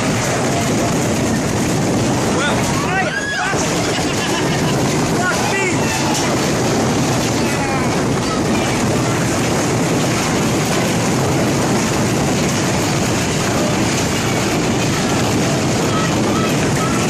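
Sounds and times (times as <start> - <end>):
hail striking hard surfaces: 0.0 - 17.0.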